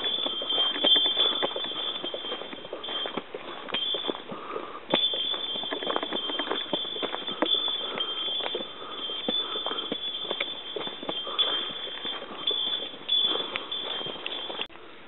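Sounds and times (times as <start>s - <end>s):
footsteps on forest trail: 0.0s - 14.7s.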